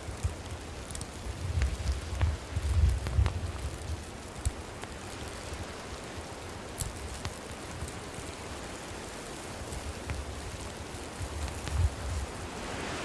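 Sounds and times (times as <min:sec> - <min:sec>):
campfire hissing: 0:00.0 - 0:13.0
fire crackling pops: 0:00.0 - 0:13.0.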